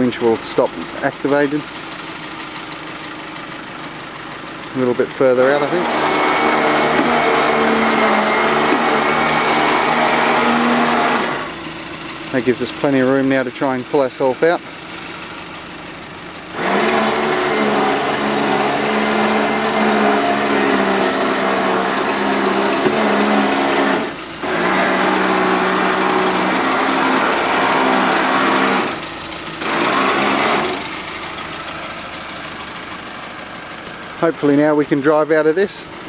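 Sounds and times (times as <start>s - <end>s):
electric winch motor running: 0.0s - 36.0s
vehicle engine idling: 0.0s - 36.0s.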